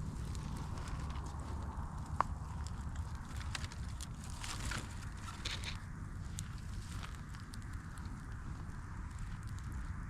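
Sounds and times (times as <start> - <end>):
low rumble of flames: 0.0 - 10.0
wood crackling and popping: 0.0 - 10.0.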